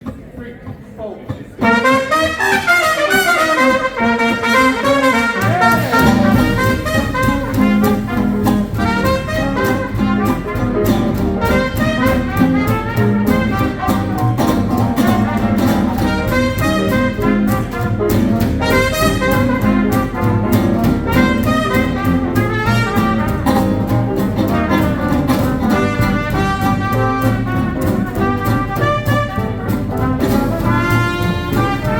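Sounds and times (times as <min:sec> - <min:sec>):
swing band playing: 0:00.0 - 0:31.9
brass horns: 0:01.6 - 0:31.9.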